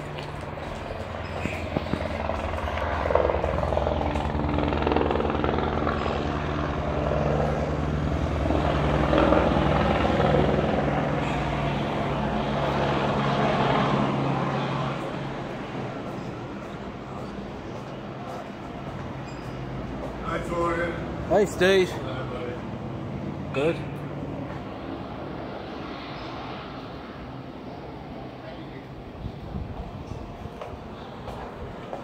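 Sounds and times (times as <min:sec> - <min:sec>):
helicopter flying overhead: 0:00.0 - 0:32.0.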